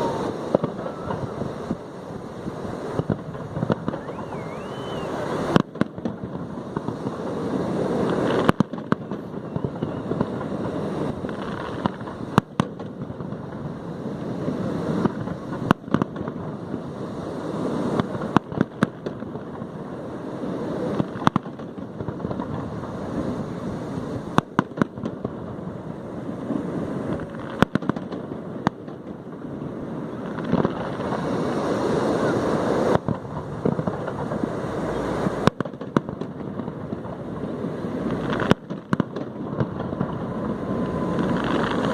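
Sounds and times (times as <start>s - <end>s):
rushing crackling fireworks: 0.0s - 41.9s.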